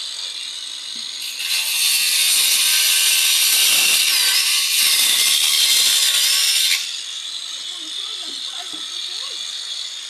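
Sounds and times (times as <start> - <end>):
tool sanding wood rasping: 0.0 - 10.0.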